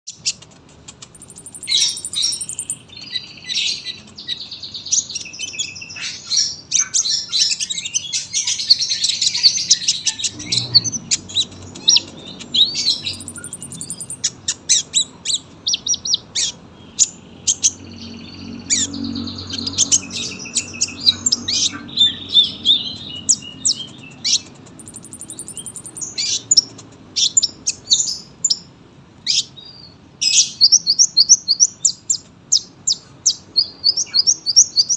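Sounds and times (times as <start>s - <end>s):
sunbird singing rapid chirps: 0.1s - 28.7s, 29.3s - 34.9s.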